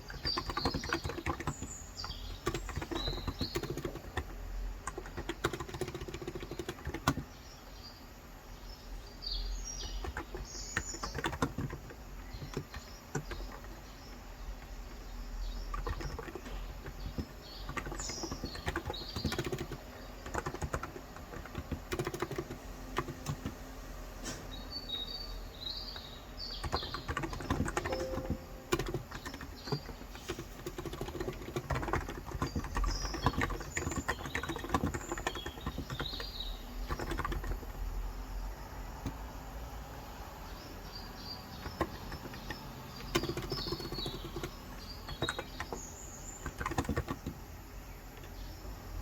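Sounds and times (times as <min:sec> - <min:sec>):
fast typing on keyboard: 0:00.0 - 0:07.6, 0:09.6 - 0:23.8, 0:26.0 - 0:38.0, 0:41.2 - 0:48.3
small birds chirping: 0:00.0 - 0:49.0.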